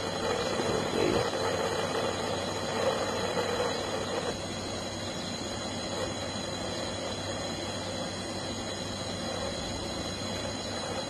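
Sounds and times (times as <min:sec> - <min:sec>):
hand torch flame hissing: 0:00.0 - 0:11.0.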